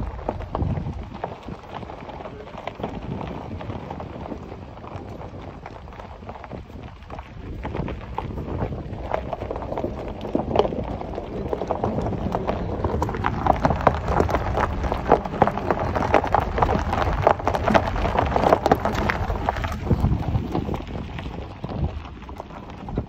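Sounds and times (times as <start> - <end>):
stones clicking and popping: 0.0 - 23.0
tyre crunching over gravel: 0.0 - 23.0.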